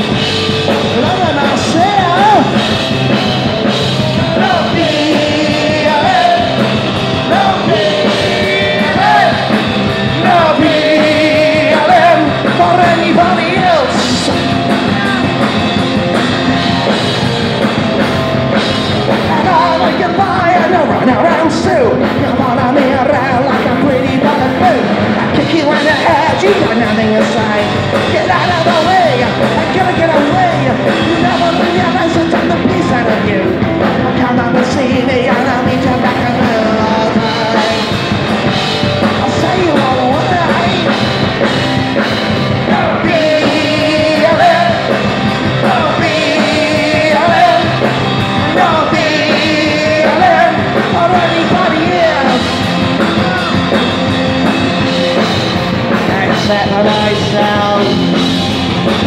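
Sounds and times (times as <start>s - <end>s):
punk rock band playing: 0.0s - 59.0s
singer shouting vocals: 0.7s - 2.6s, 4.1s - 15.7s, 19.2s - 38.0s, 39.1s - 41.4s, 42.6s - 54.2s, 56.0s - 59.0s.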